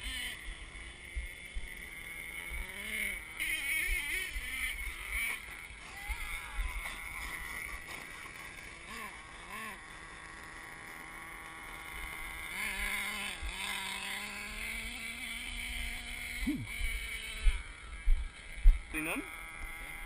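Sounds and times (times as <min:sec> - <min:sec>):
toy truck engine revving: 0:00.0 - 0:20.0.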